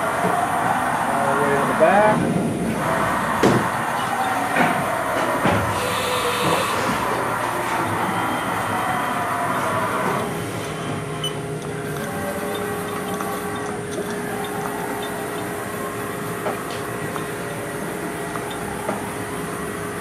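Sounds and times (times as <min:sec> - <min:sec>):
machine axis drive whine and rumble: 0:00.0 - 0:20.0.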